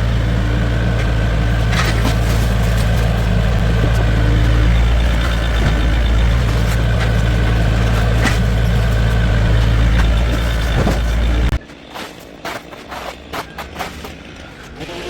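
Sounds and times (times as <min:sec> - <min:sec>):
heavy engine humming: 0:00.0 - 0:15.0.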